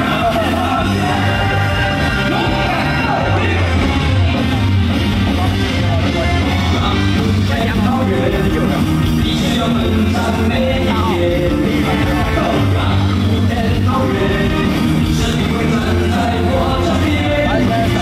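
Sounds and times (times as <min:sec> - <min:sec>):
rock song over sound system: 0:00.0 - 0:18.0.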